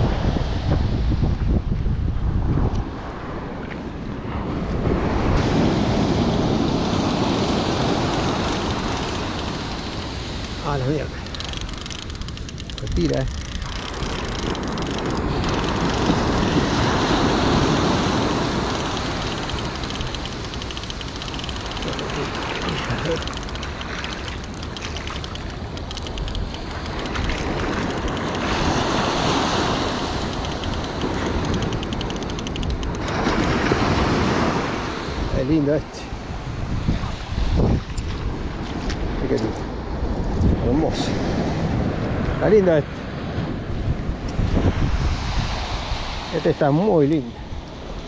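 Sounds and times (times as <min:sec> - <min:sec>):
wind on microphone: 0:00.0 - 0:46.4
surf washing onto beach: 0:04.2 - 0:39.2, 0:40.9 - 0:48.0.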